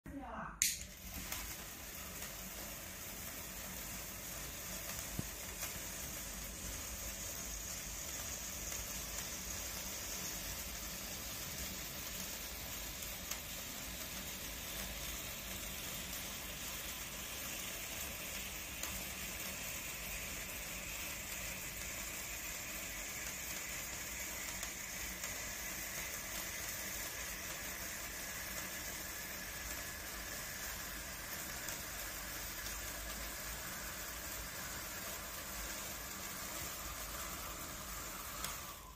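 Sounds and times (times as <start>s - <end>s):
small crackles: 0.6s - 38.9s
spark fountain sizzling hiss: 0.6s - 38.9s.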